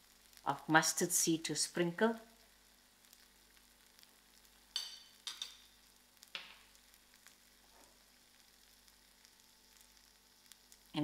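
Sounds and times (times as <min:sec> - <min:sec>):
chickpeas frying in oil: 0:00.0 - 0:11.0.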